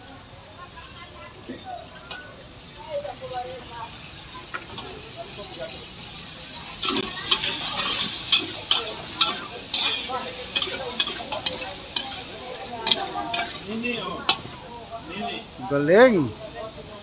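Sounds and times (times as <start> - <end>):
vegetables sizzling in a wok: 0.0 - 17.0
utensils scraping and clanking on wok: 1.5 - 17.0.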